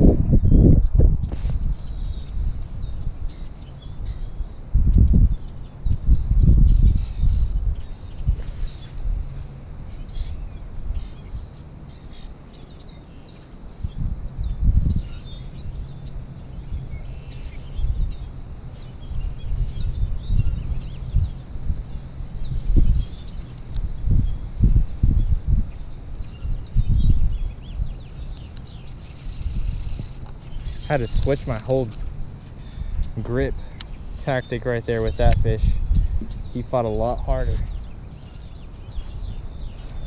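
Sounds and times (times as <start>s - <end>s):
wind gusts on microphone: 0.0s - 13.0s, 13.6s - 40.0s
small birds chirping: 0.0s - 40.0s.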